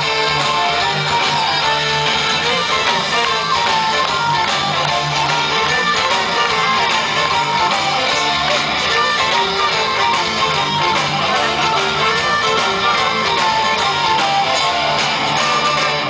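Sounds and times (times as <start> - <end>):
distorted electric guitars: 0.0 - 16.0
drums: 0.0 - 16.0
flute melody: 0.0 - 16.0
violin melody: 0.0 - 16.0.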